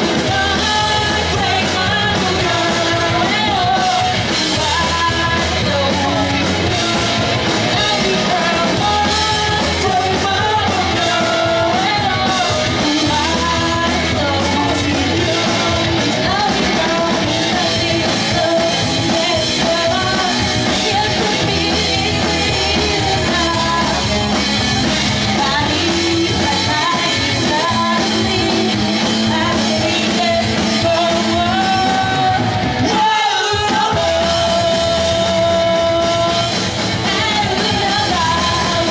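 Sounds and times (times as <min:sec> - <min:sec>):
person singing lead vocal: 0:00.0 - 0:38.9
pop-punk band playing live: 0:00.0 - 0:38.9.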